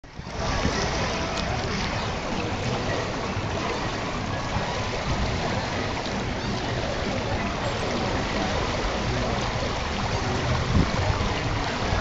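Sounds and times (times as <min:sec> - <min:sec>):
faint voices: 0:00.0 - 0:12.0
water lapping: 0:00.0 - 0:12.0
wind buffeting microphone: 0:00.0 - 0:12.0.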